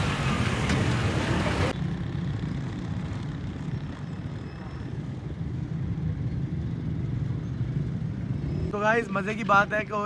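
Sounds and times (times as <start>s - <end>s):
low vehicle rumble: 0.0s - 8.8s.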